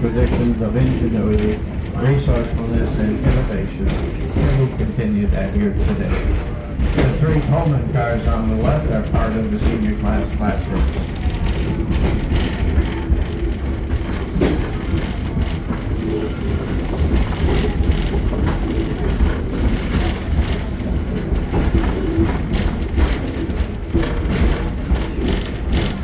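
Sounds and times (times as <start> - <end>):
train rumbling: 0.0 - 26.0
wheels clacking over rail joints: 0.0 - 26.0.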